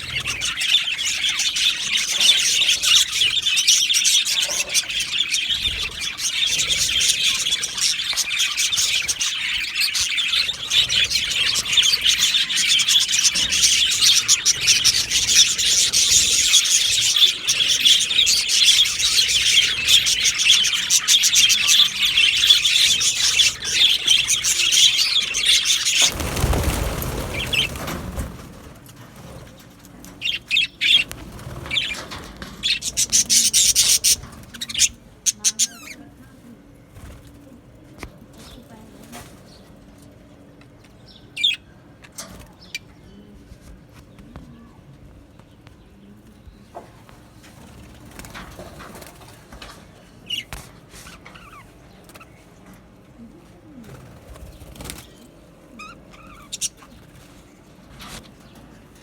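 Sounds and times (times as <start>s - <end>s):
budgerigars chirping and chattering: 0.0s - 37.2s, 41.0s - 43.0s, 47.2s - 52.7s, 53.8s - 59.0s.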